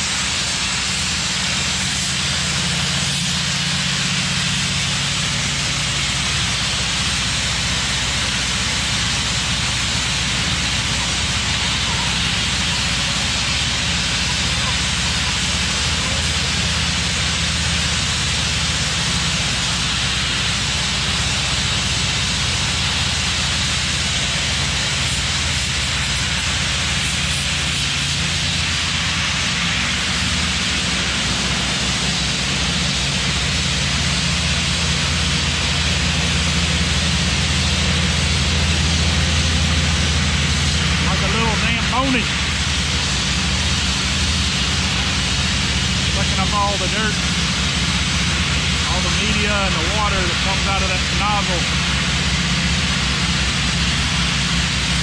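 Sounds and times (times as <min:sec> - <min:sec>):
floor scrubber engine humming: 0:00.0 - 0:55.0
vacuum hissing: 0:00.0 - 0:55.0.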